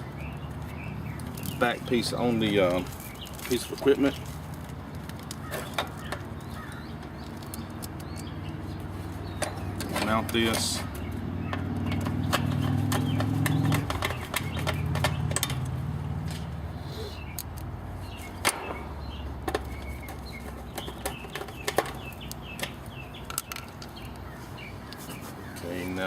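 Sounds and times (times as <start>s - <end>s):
birds chirping: 0.0s - 26.0s
parts clicking and tapping: 1.1s - 16.5s, 17.2s - 24.3s.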